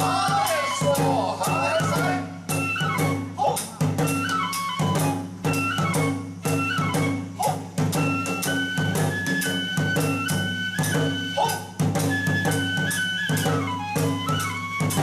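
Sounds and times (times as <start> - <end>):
bamboo flute high notes: 0.0 - 15.0
hand cymbal strokes: 0.0 - 15.0
rapid drum strokes: 0.0 - 15.0.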